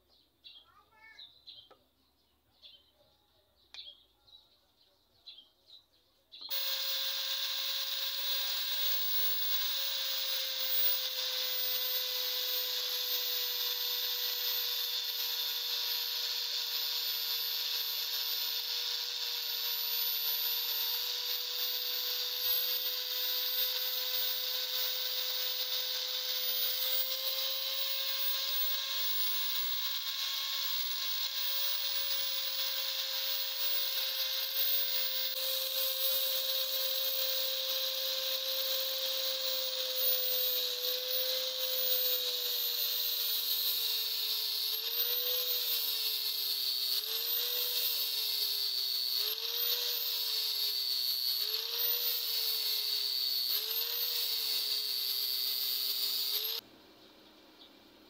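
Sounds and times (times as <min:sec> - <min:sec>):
angle grinder grinding wood: 0:06.4 - 0:56.6.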